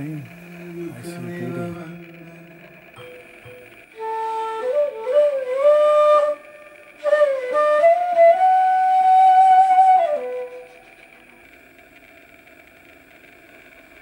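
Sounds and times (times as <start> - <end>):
bamboo flute melody: 0.0 - 11.4.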